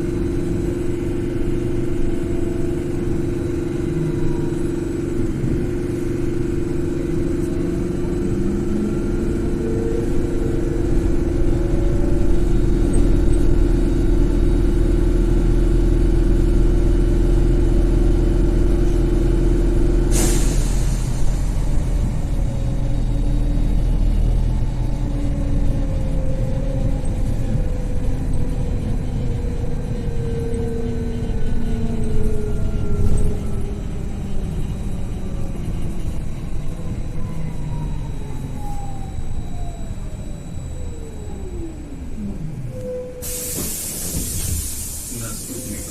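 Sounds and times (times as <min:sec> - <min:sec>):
road rumble: 0:00.0 - 0:45.9.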